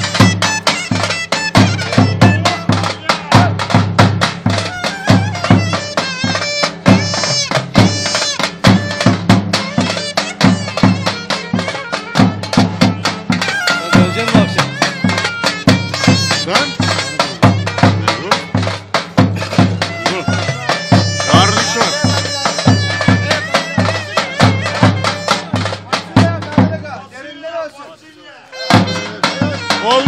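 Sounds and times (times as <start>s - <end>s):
shrill reed pipe melody: 0.0s - 26.9s, 28.2s - 30.0s
drum beating dance rhythm: 0.0s - 27.1s, 28.5s - 30.0s.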